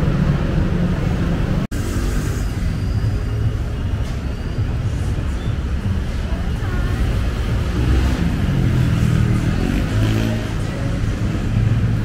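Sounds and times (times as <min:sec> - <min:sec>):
busy street traffic rumble: 0:00.0 - 0:12.0.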